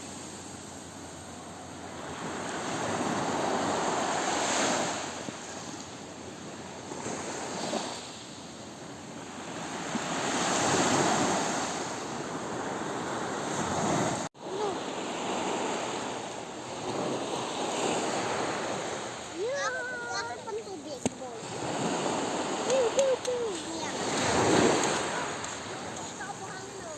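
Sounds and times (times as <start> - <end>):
ocean waves washing in: 0.0 - 26.9.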